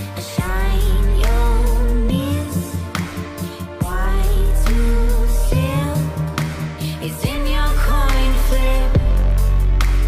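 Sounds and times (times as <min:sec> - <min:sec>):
deep bass: 0:00.0 - 0:10.0
electronic music: 0:00.0 - 0:10.0
person singing: 0:00.0 - 0:10.0.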